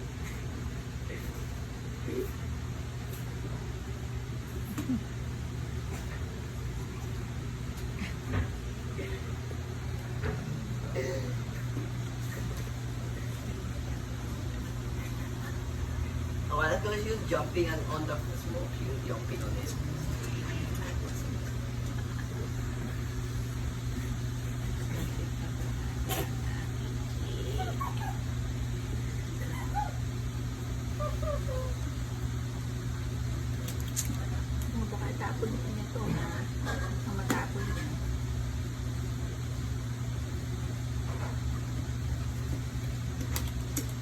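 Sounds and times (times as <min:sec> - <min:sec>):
appliance humming: 0:00.0 - 0:44.0.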